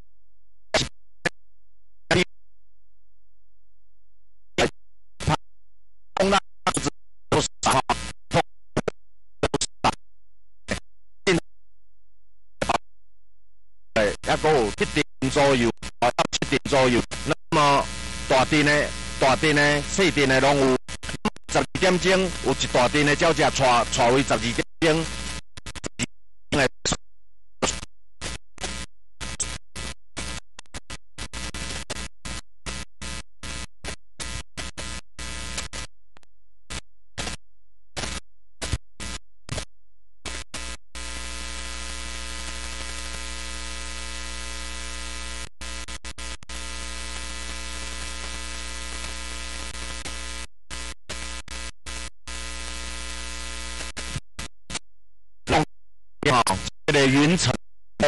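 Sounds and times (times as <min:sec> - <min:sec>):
electronic buzz with static: 0:00.7 - 0:01.4, 0:04.6 - 0:05.4, 0:06.2 - 0:10.0, 0:12.6 - 0:12.8, 0:14.0 - 0:27.0, 0:27.6 - 0:35.9, 0:36.7 - 0:37.4, 0:38.0 - 0:54.8, 0:55.5 - 0:57.6.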